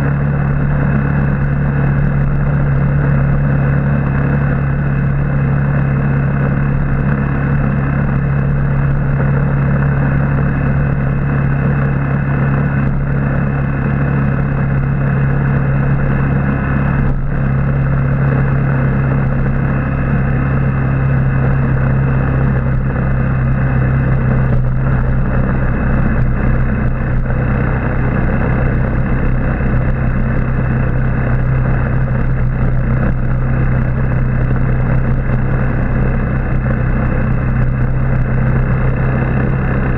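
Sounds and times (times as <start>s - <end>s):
motorbike engine humming: 0.0s - 39.9s
road noise rushing: 0.0s - 39.9s.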